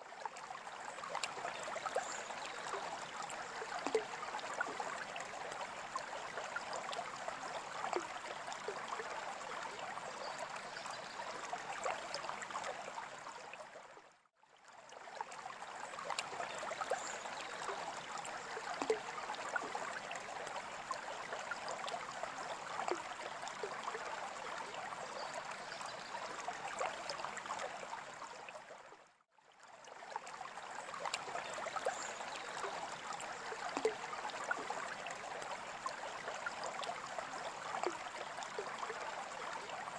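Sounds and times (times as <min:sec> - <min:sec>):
water trickling and burbling: 0:00.0 - 0:14.0, 0:14.6 - 0:28.8, 0:29.6 - 0:39.9.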